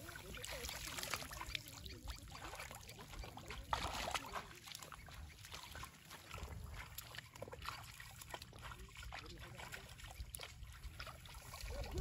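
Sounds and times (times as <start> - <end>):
sloshing of shallow water: 0.0 - 12.0.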